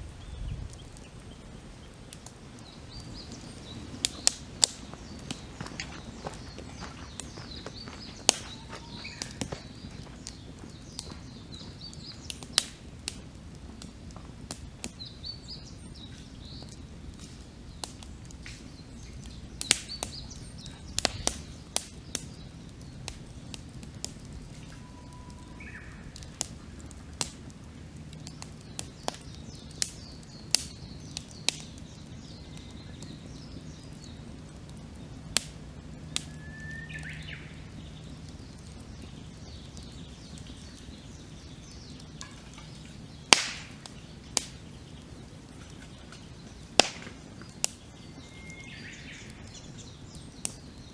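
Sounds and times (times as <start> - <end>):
birds chirping: 0.0 - 50.9
campfire crackling and popping: 0.0 - 50.9.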